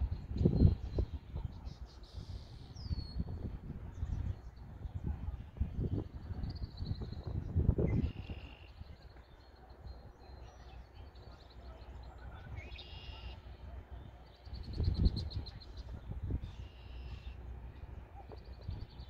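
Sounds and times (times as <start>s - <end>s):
wind buffeting microphone: 0.0s - 10.4s, 13.6s - 19.0s
small birds chirping: 0.2s - 19.0s.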